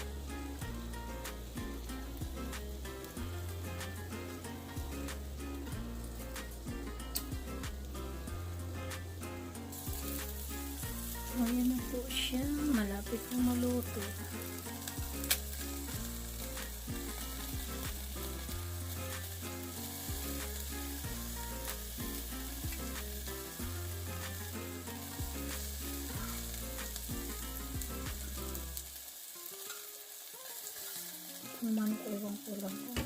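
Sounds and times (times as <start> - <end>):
background music with bass line: 0.0 - 28.8
meat sizzling: 0.0 - 33.0.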